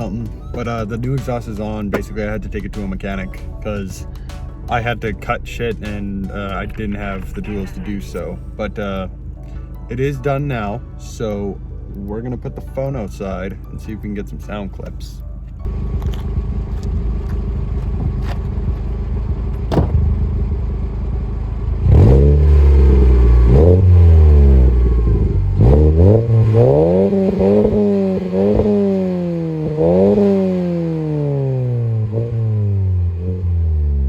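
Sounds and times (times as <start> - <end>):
car engine idling and revving: 0.0 - 9.4, 14.8 - 34.0.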